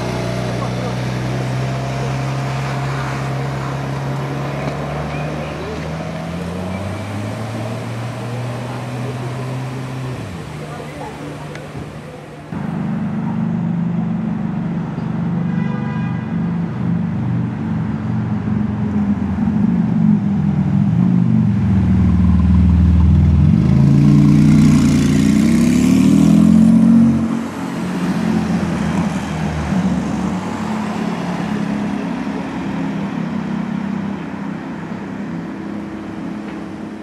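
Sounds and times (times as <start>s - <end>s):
car engine accelerating: 0.0s - 15.4s, 17.1s - 37.0s.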